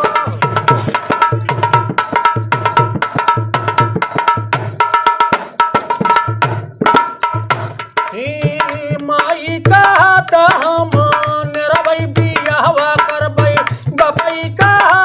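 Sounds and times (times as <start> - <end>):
hand drum rhythm: 0.0 - 15.0.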